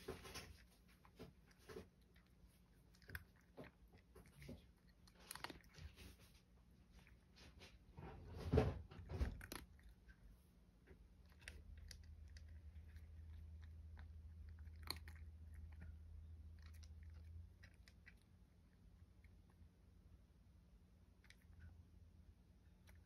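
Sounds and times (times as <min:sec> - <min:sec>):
cat crunching dry kibble: 0:00.0 - 0:10.3, 0:10.9 - 0:19.6
low steady hum: 0:00.0 - 0:23.0.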